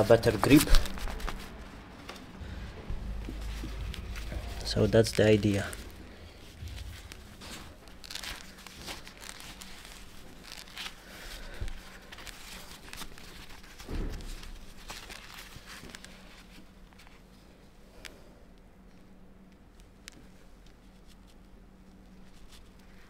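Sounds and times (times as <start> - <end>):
rustling and crinkling tape: 0.0 - 23.0.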